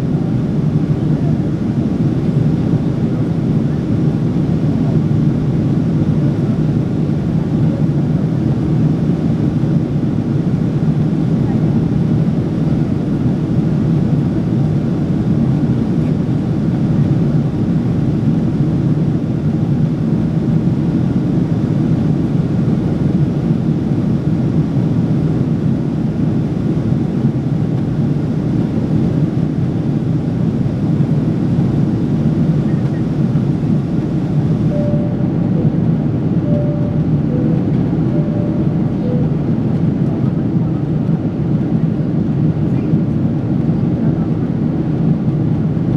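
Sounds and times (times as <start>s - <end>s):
airliner cabin engine rumble: 0.0s - 45.9s.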